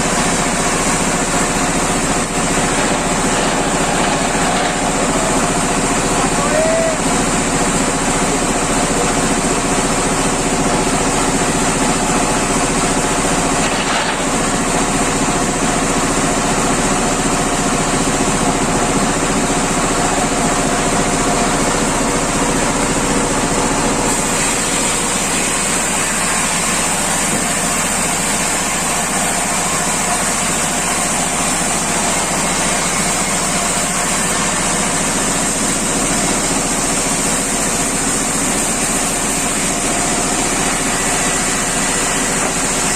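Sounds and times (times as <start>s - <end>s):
wood slicing machine engine: 0.0s - 42.9s.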